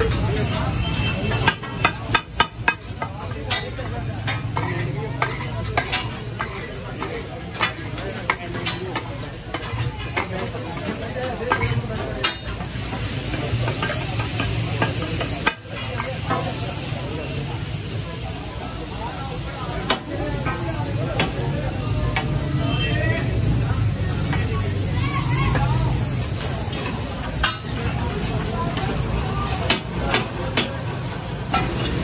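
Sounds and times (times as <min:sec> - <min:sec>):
metal spatula clanking on griddle: 0:00.0 - 0:17.1, 0:19.8 - 0:22.4, 0:25.2 - 0:32.0
food sizzling: 0:00.0 - 0:32.0.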